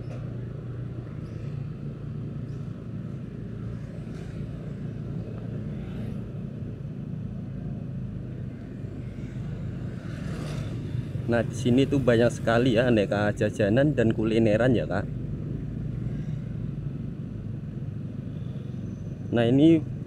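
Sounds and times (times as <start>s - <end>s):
faint passing traffic: 0.0s - 20.0s
road and wind rumble: 0.0s - 20.0s.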